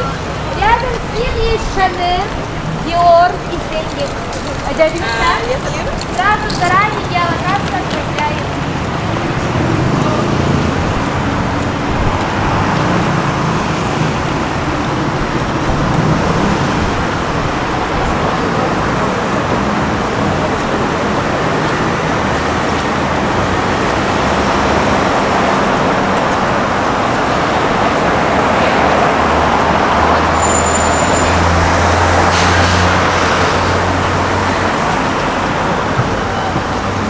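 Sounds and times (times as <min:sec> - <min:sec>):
road traffic noise: 0:00.0 - 0:37.0
vehicle engine hum: 0:00.0 - 0:37.0.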